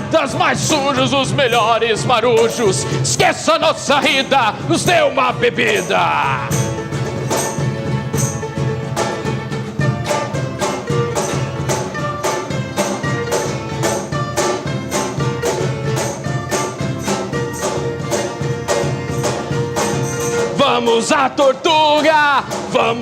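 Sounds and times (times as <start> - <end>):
live folk-rock band playing: 0.0 - 23.0.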